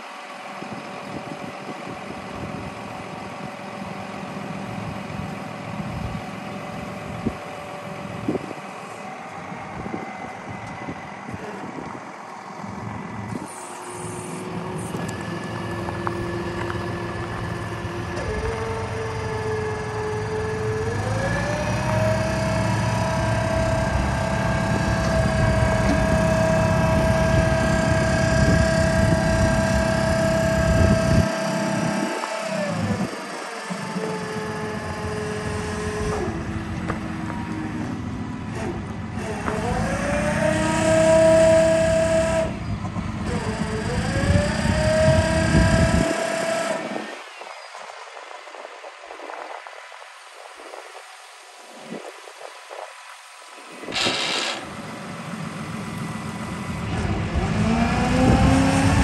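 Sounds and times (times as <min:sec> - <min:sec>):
diesel engine rumble: 0:00.0 - 0:59.0
hydraulic whine: 0:00.0 - 0:59.0.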